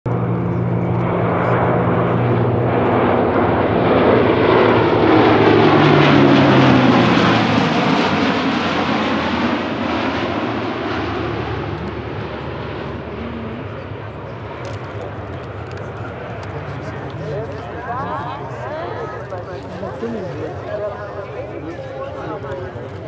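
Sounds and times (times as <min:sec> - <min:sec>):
propeller aircraft flying past: 0:00.1 - 0:23.0.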